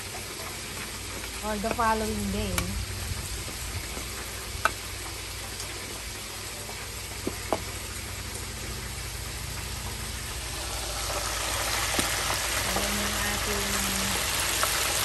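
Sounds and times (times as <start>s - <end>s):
oil sizzling in deep fryer: 0.0s - 15.0s.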